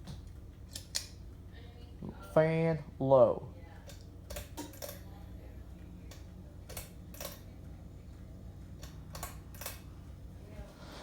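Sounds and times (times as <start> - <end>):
ceiling fan motor hum: 0.0 - 11.0.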